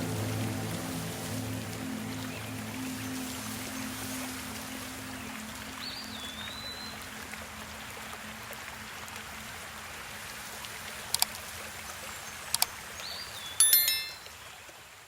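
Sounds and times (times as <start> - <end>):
mountain river flowing: 0.0 - 14.1.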